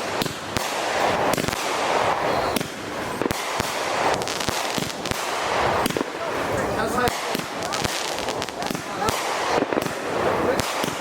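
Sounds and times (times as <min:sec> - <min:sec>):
firework bangs: 0:00.0 - 0:11.0
fireworks crackling and hissing: 0:00.0 - 0:11.0.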